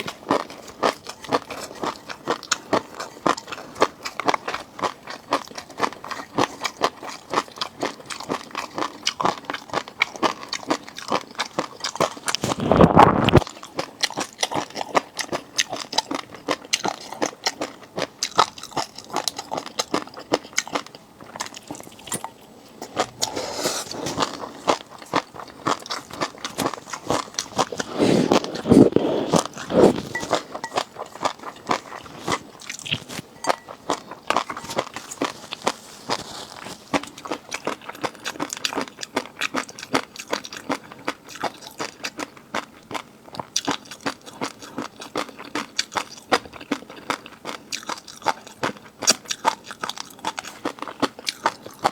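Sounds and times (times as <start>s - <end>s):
crunching and chewing seafood: 0.0s - 51.9s.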